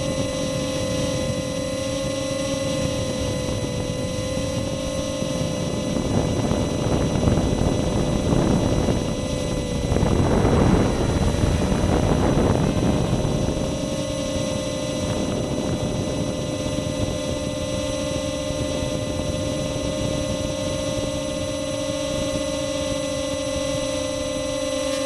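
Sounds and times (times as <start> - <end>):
rushing air noise: 0.0 - 24.1
quadcopter motors whining: 0.0 - 25.0.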